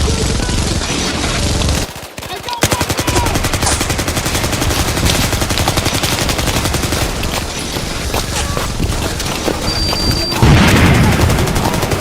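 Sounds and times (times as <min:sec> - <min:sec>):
rapid automatic gunfire: 0:00.0 - 0:12.0.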